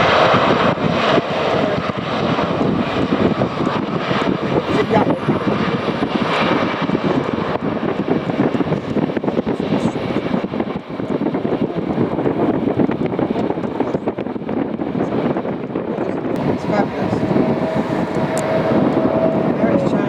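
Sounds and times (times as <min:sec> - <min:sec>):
jet engines roaring: 0:00.0 - 0:14.9, 0:15.5 - 0:20.0.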